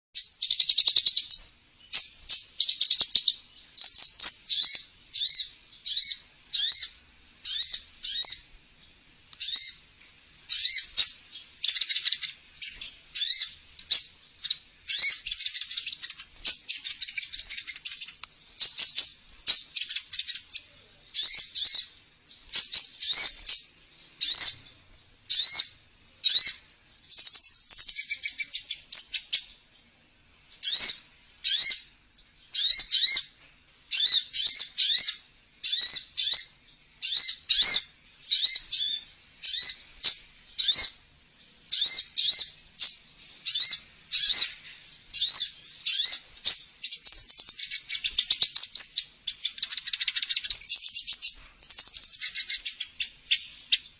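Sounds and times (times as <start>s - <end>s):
sunbird song high rapid chirps: 0.2s - 53.9s.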